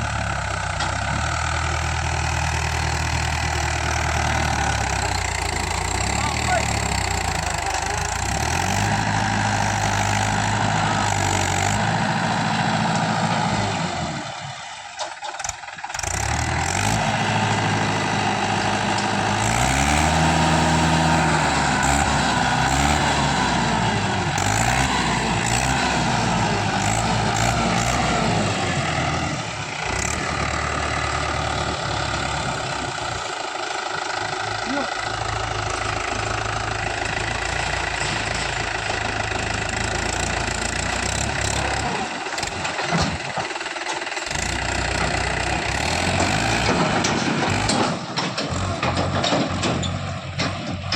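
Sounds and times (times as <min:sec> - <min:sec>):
diesel tractor engine revving: 0:00.0 - 0:50.9.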